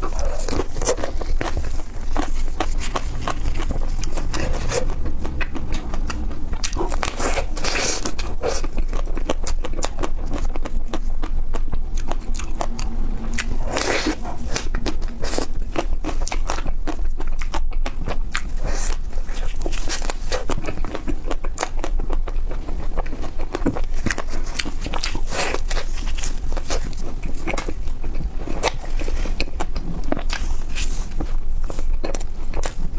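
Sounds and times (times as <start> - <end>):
crunchy chewing: 0.0 - 32.9.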